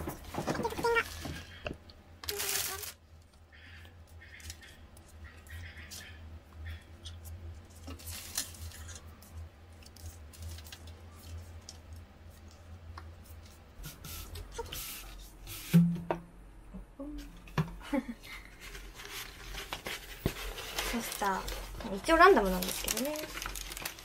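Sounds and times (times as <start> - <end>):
steady low hum: 3.0 - 23.8.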